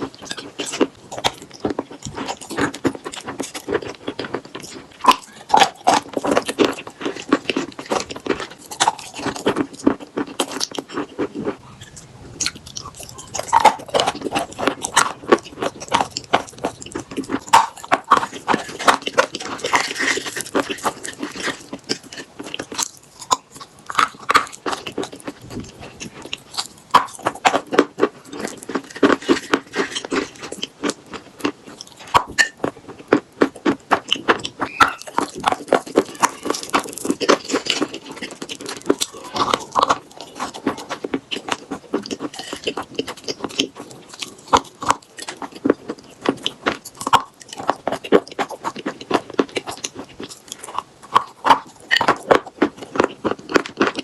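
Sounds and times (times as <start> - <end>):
chalk being chewed: 0.0 - 54.0.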